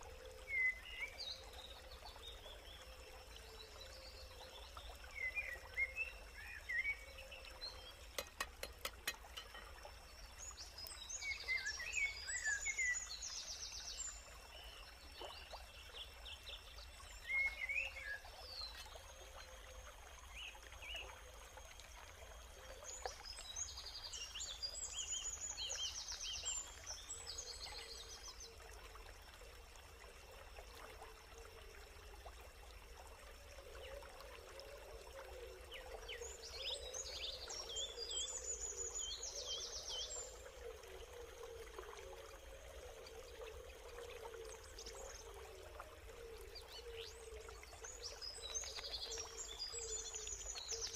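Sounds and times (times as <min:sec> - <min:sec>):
steady watery hiss: 0:00.0 - 0:50.9.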